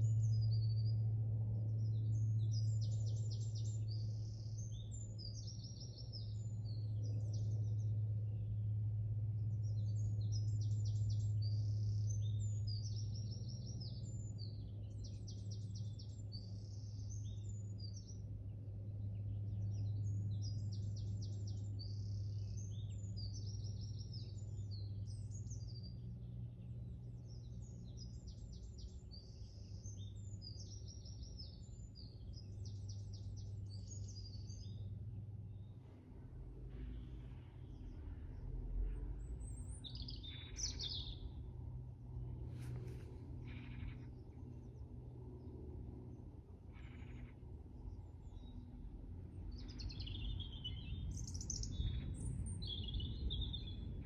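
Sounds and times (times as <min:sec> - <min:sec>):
low hum: 0:00.0 - 0:54.0
songbirds trilling: 0:01.6 - 0:54.0.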